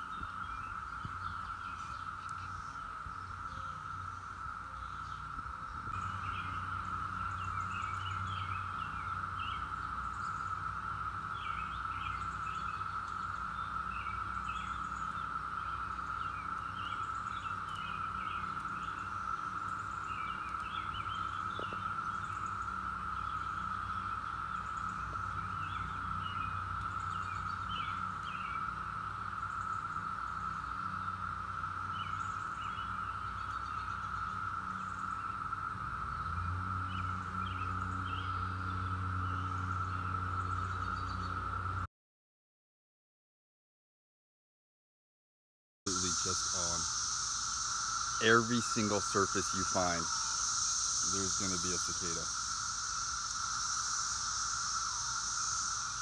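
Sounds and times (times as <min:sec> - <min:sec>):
birds chirping: 0:00.0 - 0:41.8, 0:45.9 - 0:56.0
cicadas droning: 0:00.0 - 0:41.9, 0:45.9 - 0:56.0.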